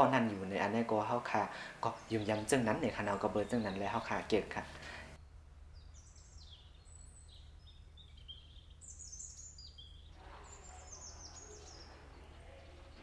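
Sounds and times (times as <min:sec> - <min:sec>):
faint low hum: 0:00.0 - 0:13.0
small bird singing: 0:01.8 - 0:13.0.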